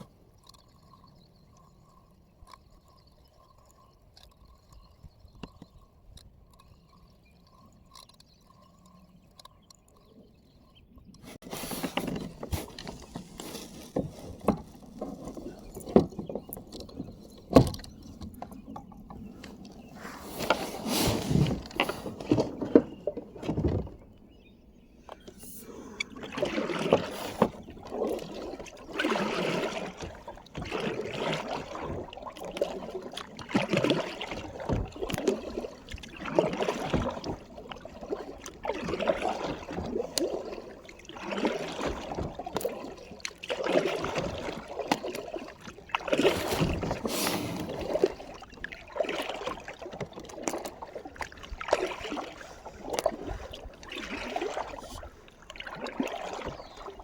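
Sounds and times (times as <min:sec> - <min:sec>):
kayak paddle splashing: 0:11.2 - 0:57.0.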